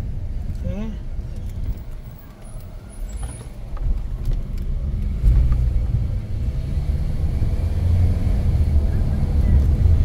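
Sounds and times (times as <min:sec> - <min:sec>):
car engine and tyres rumble: 0:00.0 - 0:10.0.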